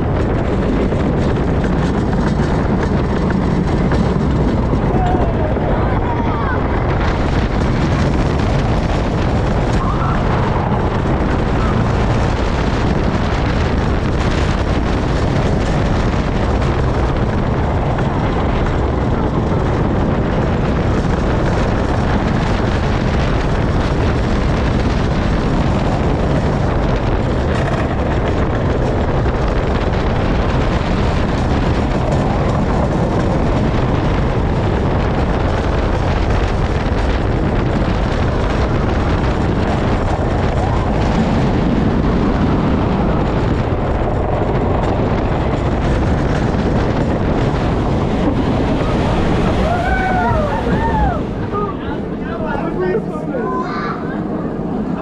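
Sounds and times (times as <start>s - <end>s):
roller coaster wheels rumbling on track: 0.0s - 55.0s
wind buffeting microphone: 0.0s - 55.0s.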